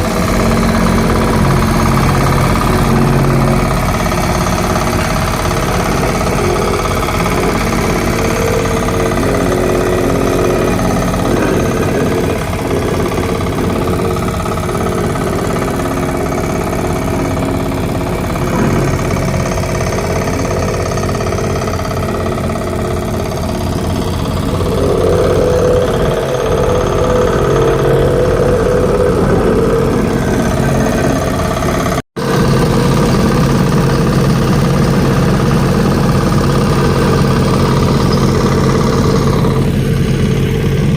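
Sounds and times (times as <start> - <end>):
construction machine engine running: 0.0 - 40.9.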